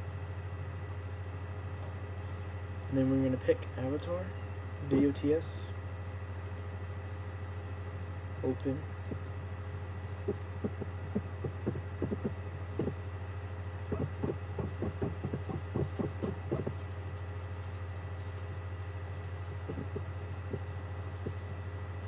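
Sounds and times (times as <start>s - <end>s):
disc drive humming: 3.5s - 22.0s.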